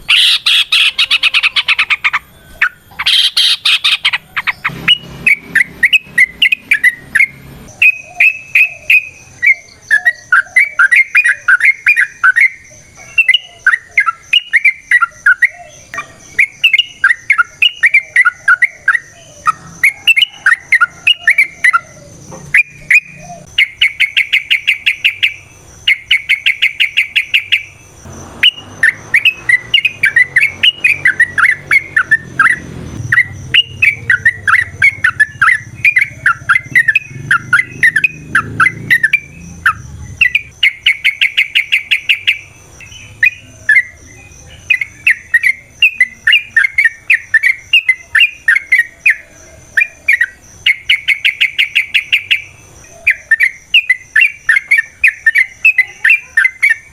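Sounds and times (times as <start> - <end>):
bulbul singing: 0.0 - 56.9
fast repeated bird notes: 0.0 - 56.9.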